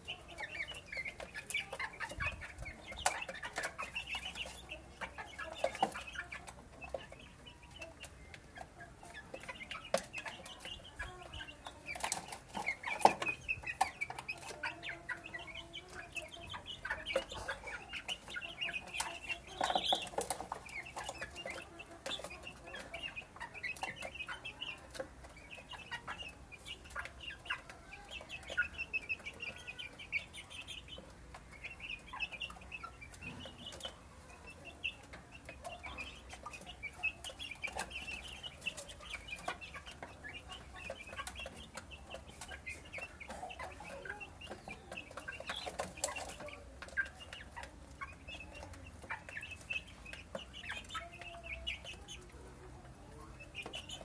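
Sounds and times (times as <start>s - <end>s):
beaks pecking at dish: 0.0s - 54.0s
chicks peeping: 0.0s - 54.0s.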